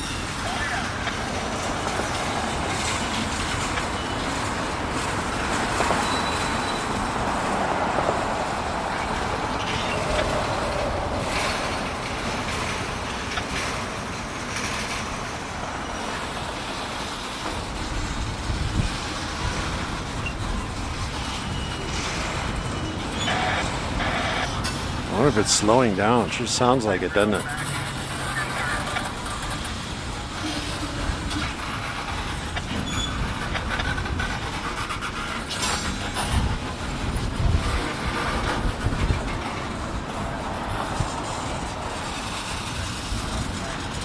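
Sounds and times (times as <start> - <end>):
train wheels rumbling on rails: 0.0 - 44.0
wheels clicking over rail joints: 0.0 - 44.0.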